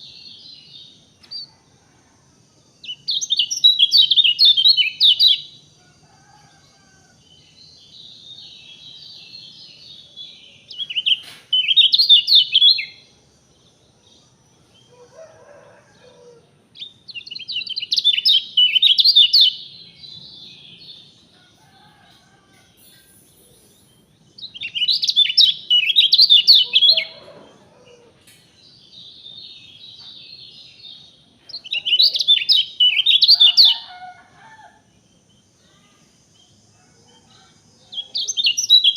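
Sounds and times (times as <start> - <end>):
songbird rapid chirps: 0.0 - 38.9.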